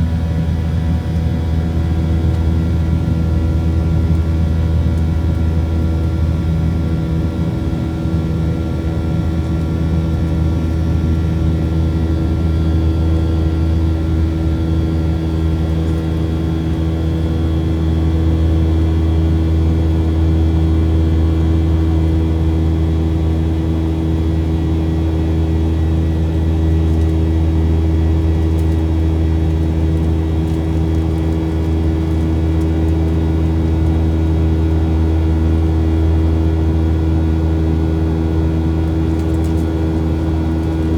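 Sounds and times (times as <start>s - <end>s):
aircraft engine drone: 0.0s - 40.9s.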